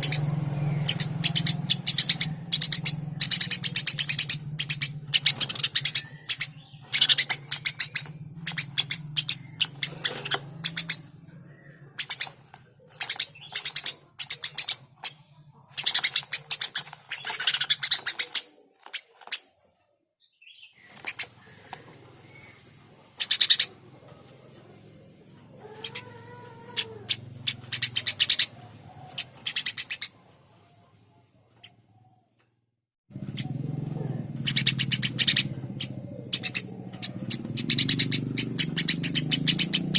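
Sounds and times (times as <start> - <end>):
sparrow chirping: 0.0 - 30.6, 33.1 - 39.9.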